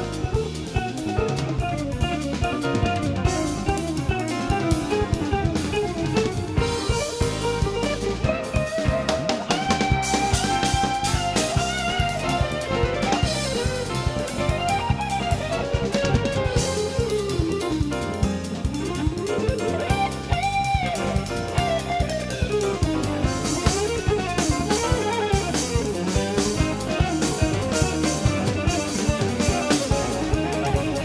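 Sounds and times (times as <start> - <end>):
bass: 0.0 - 31.0
drum kit: 0.0 - 31.0
electric guitar lead: 0.0 - 31.0.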